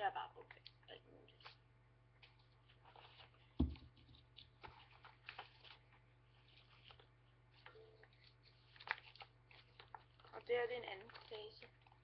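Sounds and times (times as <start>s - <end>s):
low steady hum: 0.0s - 12.0s
paper sheets rustling: 2.2s - 12.0s.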